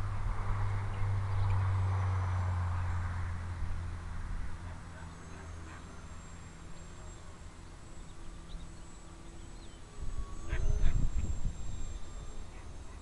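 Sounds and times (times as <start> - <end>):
model plane propeller buzzing: 0.0 - 13.0.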